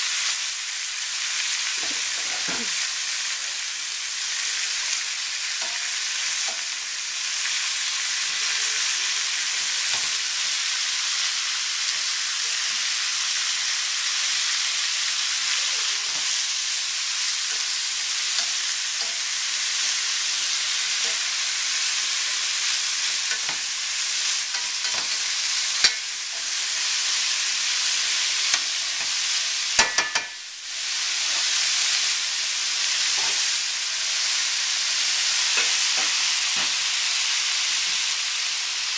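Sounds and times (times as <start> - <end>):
meat and vegetables sizzling in oil: 0.0 - 38.9
utensil stirring vegetables: 0.1 - 38.9.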